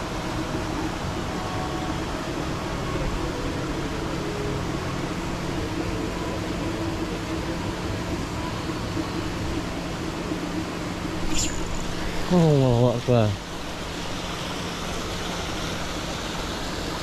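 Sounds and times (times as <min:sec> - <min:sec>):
steady mechanical hum: 0:00.0 - 0:17.0
wash of noise: 0:00.0 - 0:17.0.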